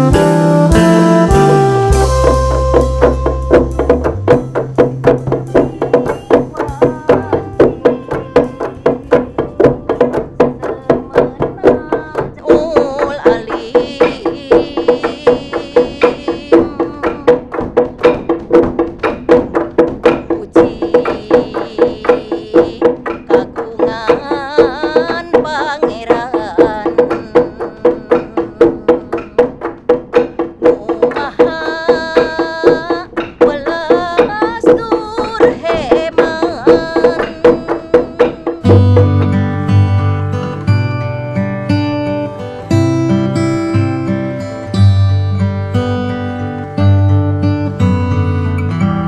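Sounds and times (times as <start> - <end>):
wooden pestles striking hollow trough: 0.8 - 41.0.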